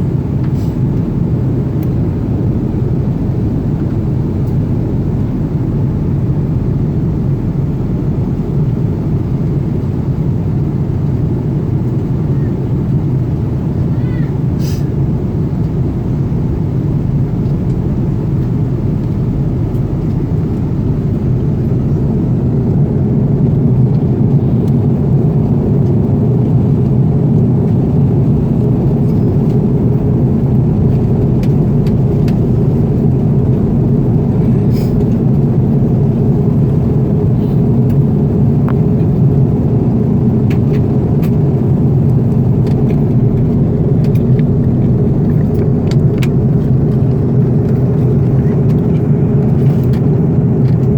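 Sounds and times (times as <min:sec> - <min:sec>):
jet engine cabin drone: 0:00.0 - 0:50.9.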